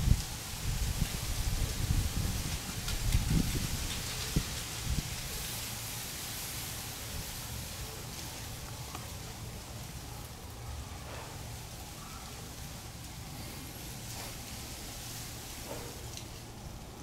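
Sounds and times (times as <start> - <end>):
even hiss: 0.0 - 17.0.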